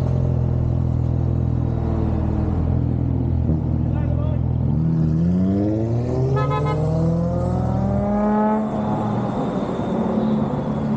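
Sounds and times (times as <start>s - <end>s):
car engine accelerating: 0.0s - 9.3s.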